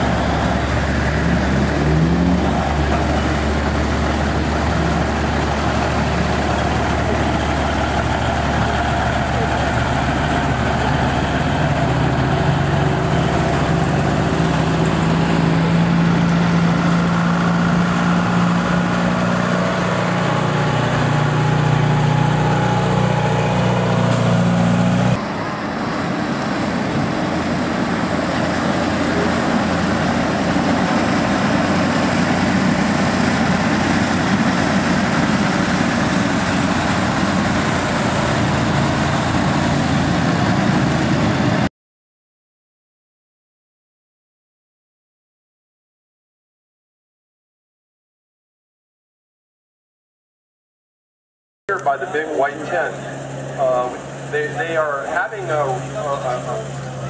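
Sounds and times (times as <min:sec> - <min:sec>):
old truck engine running roughly: 0:00.0 - 0:41.7, 0:51.7 - 0:57.0
truck diesel engine droning: 0:00.0 - 0:41.7, 0:51.7 - 0:57.0.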